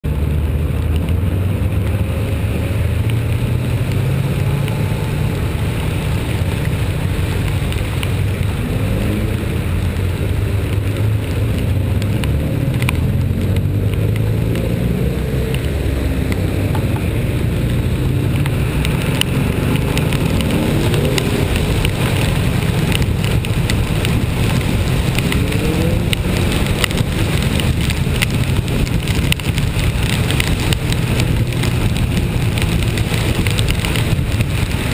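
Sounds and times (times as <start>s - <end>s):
rain pattering: 0.0s - 34.9s
vehicle engine rumbling: 0.0s - 34.9s.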